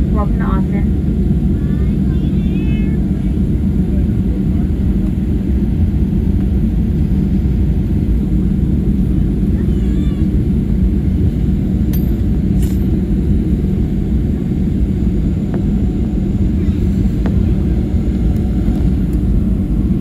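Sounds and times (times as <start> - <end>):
airliner engines and gear rumbling: 0.0 - 20.0.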